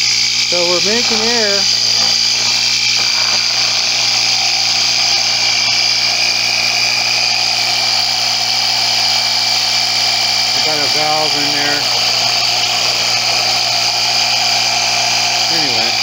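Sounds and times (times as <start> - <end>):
air compressor motor humming and whining: 0.0 - 16.0.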